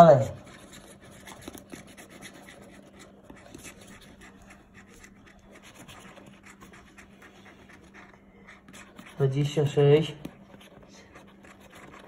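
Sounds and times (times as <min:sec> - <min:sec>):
coin scratching lottery ticket: 0:00.0 - 0:12.0
faint steady hum: 0:00.0 - 0:12.0.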